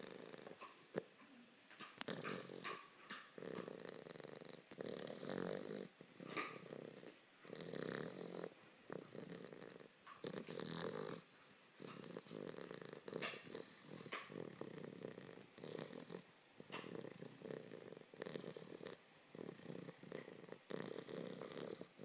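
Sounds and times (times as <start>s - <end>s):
puppy snoring: 0.0s - 22.0s.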